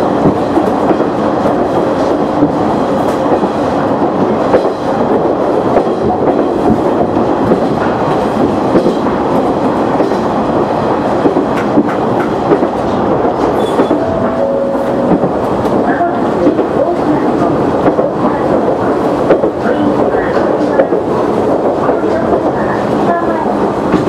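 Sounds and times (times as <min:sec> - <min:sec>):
train engine and wheels rumbling: 0:00.0 - 0:24.0.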